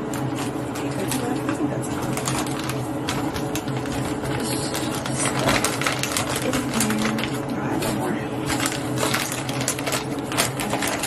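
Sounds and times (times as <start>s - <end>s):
steady low hum: 0.0s - 11.0s
paper towels rustling and crinkling: 0.3s - 11.0s.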